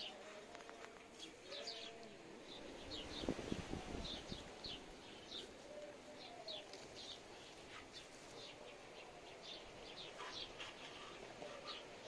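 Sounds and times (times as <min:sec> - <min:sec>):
faint outdoor hiss: 0:00.0 - 0:12.0
small birds chirping: 0:00.0 - 0:12.0.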